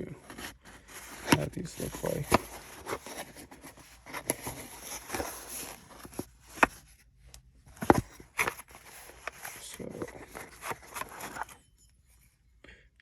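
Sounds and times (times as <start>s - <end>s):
packaging rustling and scraping: 0.0s - 12.3s.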